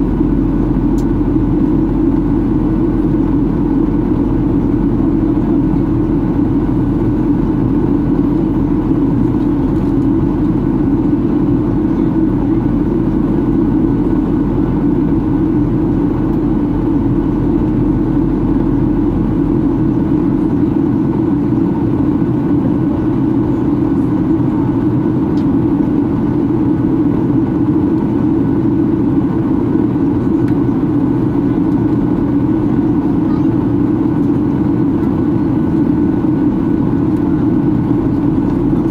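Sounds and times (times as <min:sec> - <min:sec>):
airliner cabin drone: 0:00.0 - 0:38.9
very low hum: 0:00.0 - 0:38.9.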